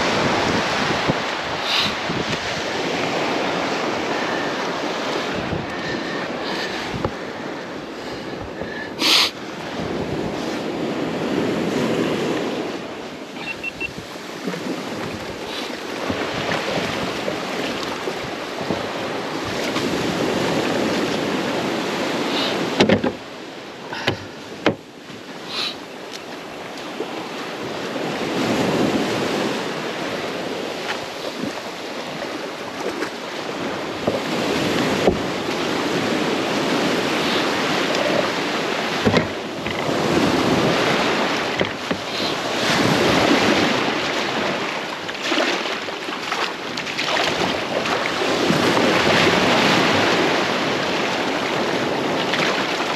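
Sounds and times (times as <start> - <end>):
wind on microphone: 0.0 - 23.3, 26.9 - 52.9
waves: 0.0 - 52.9.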